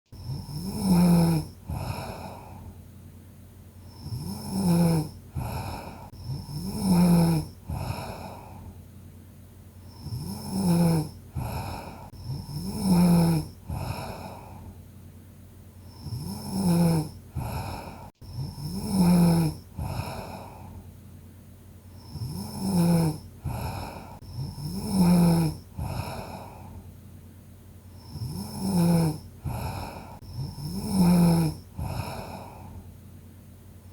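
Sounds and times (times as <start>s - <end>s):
person snoring: 0.2s - 2.8s, 3.8s - 8.8s, 9.8s - 14.8s, 15.8s - 20.9s, 21.9s - 26.9s, 27.9s - 32.9s.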